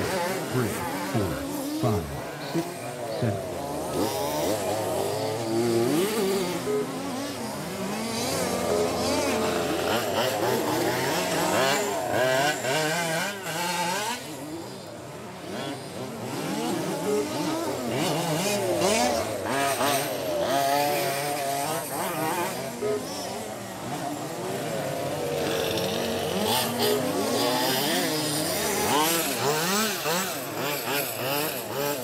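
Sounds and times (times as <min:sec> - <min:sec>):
small engines revving: 0:00.0 - 0:32.0.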